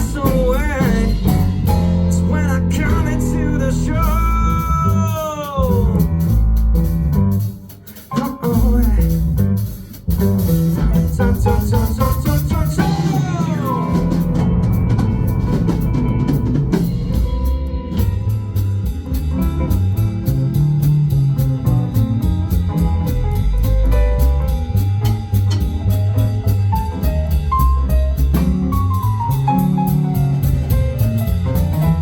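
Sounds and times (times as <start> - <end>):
funk band playing: 0.0 - 32.0.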